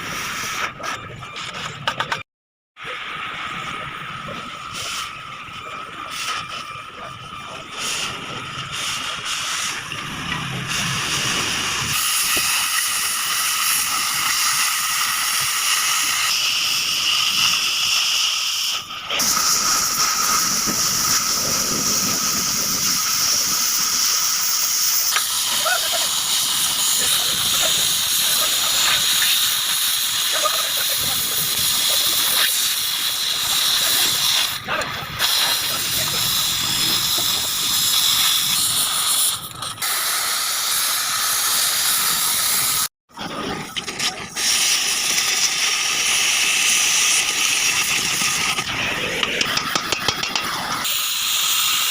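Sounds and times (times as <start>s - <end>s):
gas cutting torch hissing: 3.5s - 42.9s, 43.7s - 51.9s.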